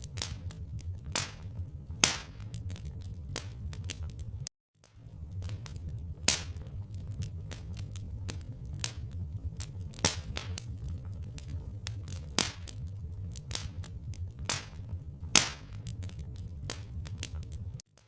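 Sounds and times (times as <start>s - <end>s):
steady low rumble: 0.0s - 17.8s
wood fire crackling and popping: 0.0s - 18.0s.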